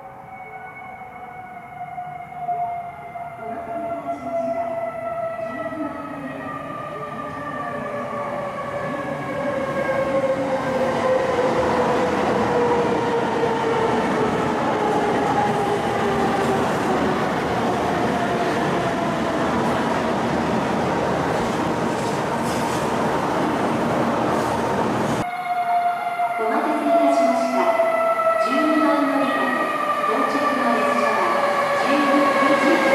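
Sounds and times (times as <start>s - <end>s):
high-speed train running past: 1.8s - 32.9s.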